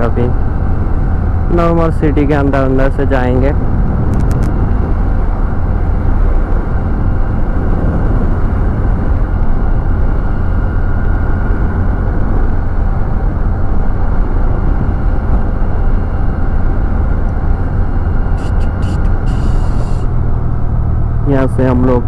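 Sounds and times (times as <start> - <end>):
scooter road noise: 0.0 - 22.0
wind rushing on microphone: 0.0 - 22.0.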